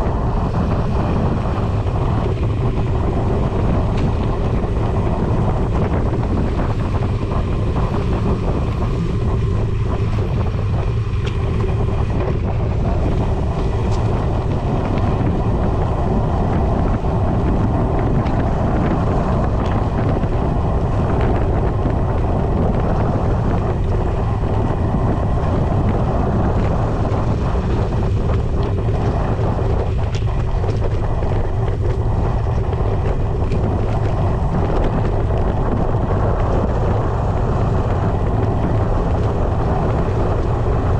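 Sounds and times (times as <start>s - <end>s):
bike tyres rumbling on dirt trail: 0.0s - 40.9s
wind noise on microphone: 0.0s - 40.9s
bike clicks and rattles: 0.4s - 40.9s.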